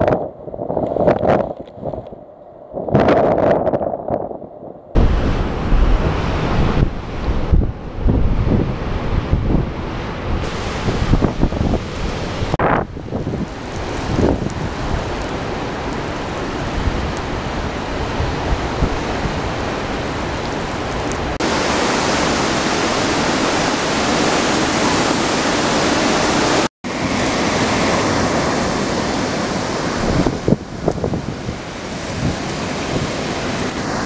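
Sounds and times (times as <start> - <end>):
strong wind and driving rain: 0.0 - 34.0
wind buffeting microphone: 0.0 - 34.0.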